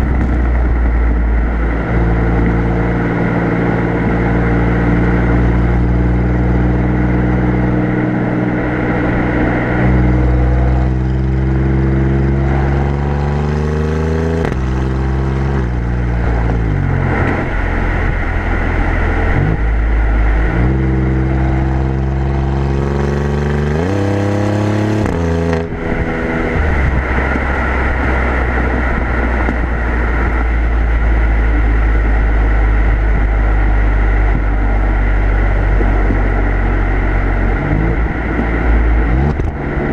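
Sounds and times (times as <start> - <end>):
car exhaust accelerating: 0.0 - 39.9
road noise: 0.0 - 39.9.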